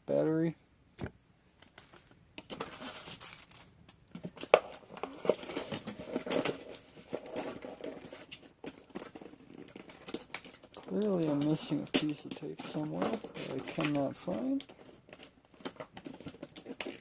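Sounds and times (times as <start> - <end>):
packaging crinkling: 1.6 - 17.0.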